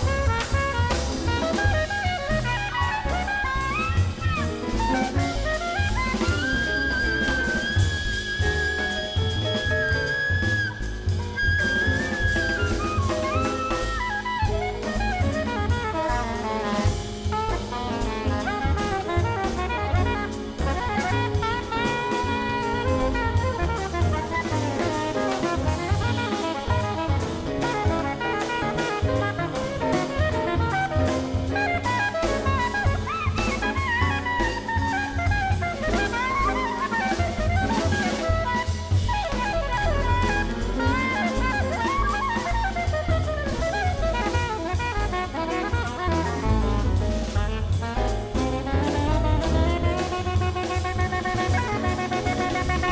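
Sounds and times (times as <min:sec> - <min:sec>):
drum kit playing: 0:00.0 - 0:52.9
horn soloing: 0:00.0 - 0:52.9
jazz band playing: 0:00.0 - 0:52.9.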